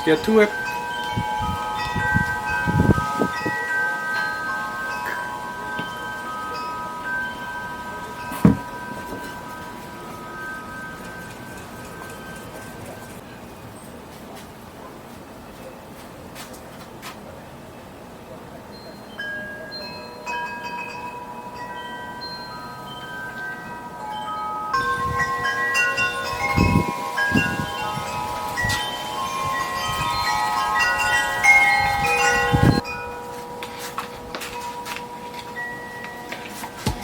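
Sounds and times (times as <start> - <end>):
chime-like bell tones: 0.0 - 13.2, 18.7 - 37.0.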